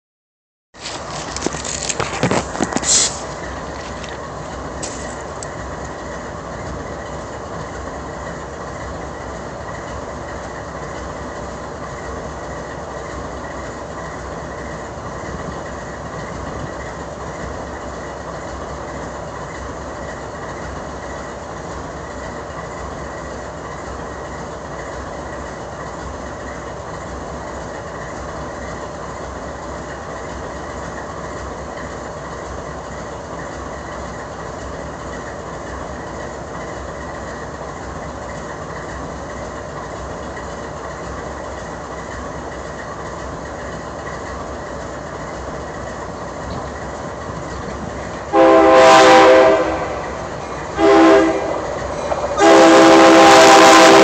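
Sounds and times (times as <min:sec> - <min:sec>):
train rumble and hum: 0:00.8 - 0:54.0.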